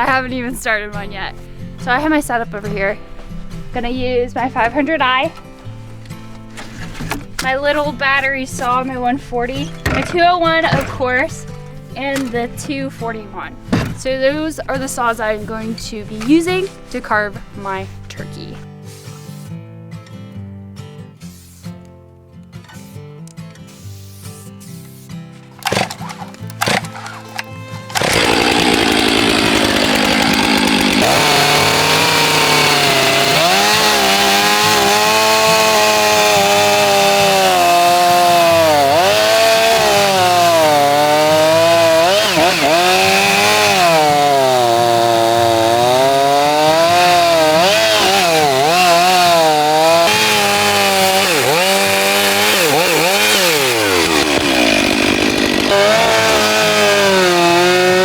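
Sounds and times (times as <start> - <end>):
chainsaw cutting wood: 5.4 - 19.3, 25.4 - 58.0.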